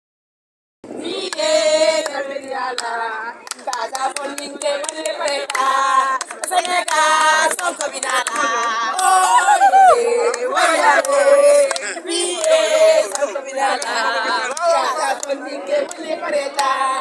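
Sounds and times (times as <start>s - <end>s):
voices singing together: 0.9s - 17.0s
sharp handclaps: 1.3s - 9.1s, 10.2s - 16.8s.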